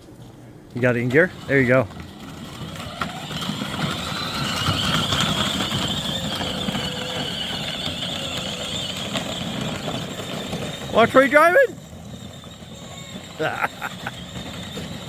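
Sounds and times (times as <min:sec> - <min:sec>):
wheels rolling rumble: 0:00.0 - 0:15.0
electric motor whine: 0:01.3 - 0:15.0.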